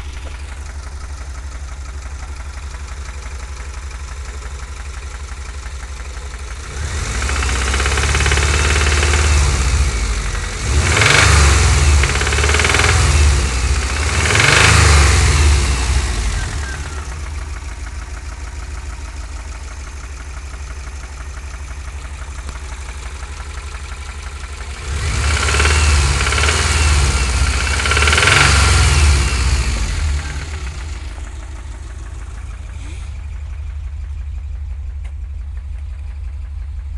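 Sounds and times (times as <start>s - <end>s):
car engine idling and revving: 0.0s - 36.9s
engine knock: 0.0s - 36.9s.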